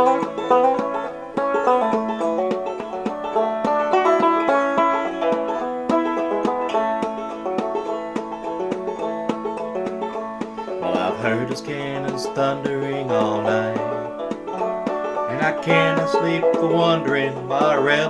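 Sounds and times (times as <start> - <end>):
banjo plucking and strumming: 0.0 - 18.0.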